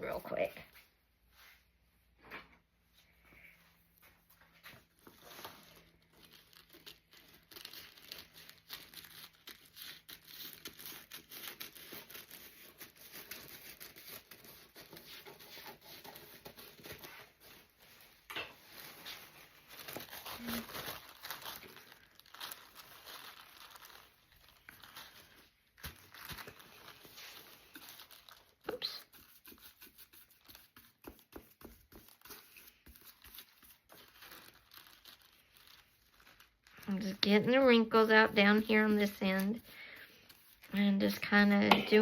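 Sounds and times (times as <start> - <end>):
paper crinkling and rustling: 4.0 - 42.0.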